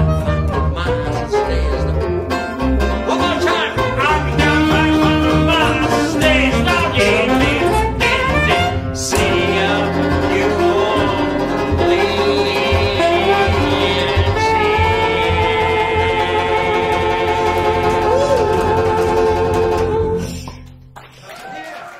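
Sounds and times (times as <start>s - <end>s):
saxophone melody: 0.0s - 1.9s, 2.6s - 20.3s
plucked double bass: 0.0s - 21.0s
strummed banjo: 0.0s - 21.0s.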